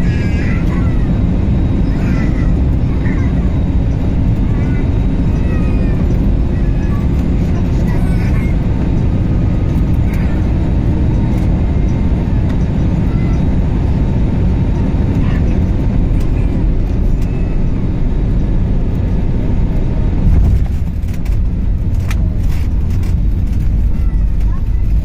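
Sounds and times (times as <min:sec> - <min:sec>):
jet engine noise in cabin: 0:00.0 - 0:25.0.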